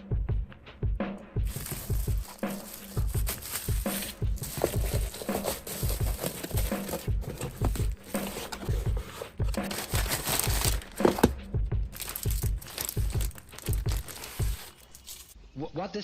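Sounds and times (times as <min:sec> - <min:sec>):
plastic packaging crinkling: 0:01.5 - 0:15.4.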